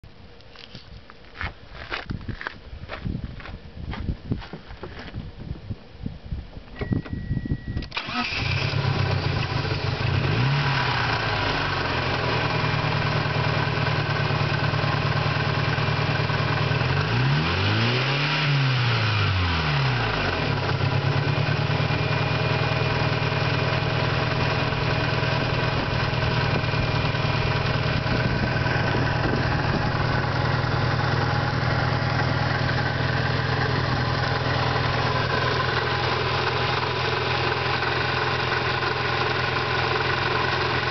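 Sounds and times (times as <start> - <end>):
car engine cranking and idling: 6.4 - 40.9.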